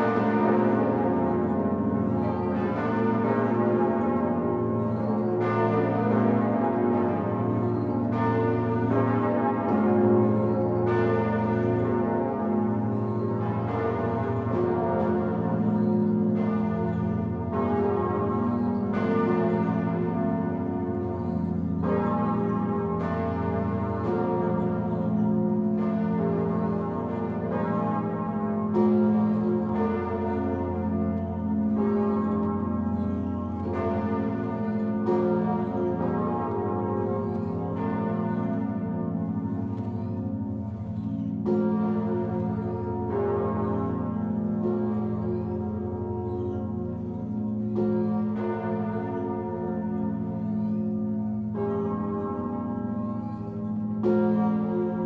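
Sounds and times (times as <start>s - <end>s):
large church bells ringing: 0.0s - 55.0s.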